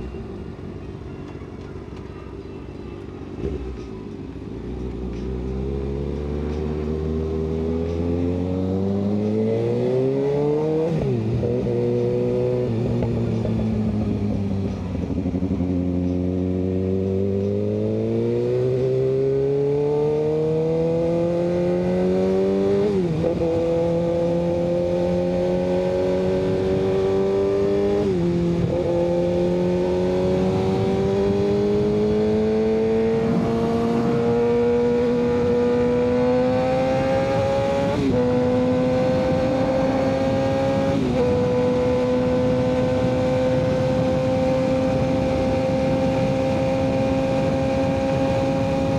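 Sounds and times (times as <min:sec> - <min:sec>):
motorcycle engine accelerating: 0:05.0 - 0:48.9.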